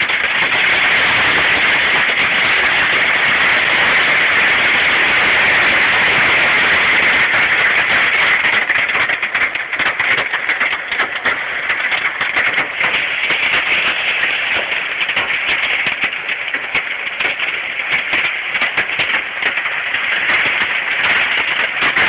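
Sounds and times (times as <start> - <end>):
hailstones clattering: 0.0 - 22.0.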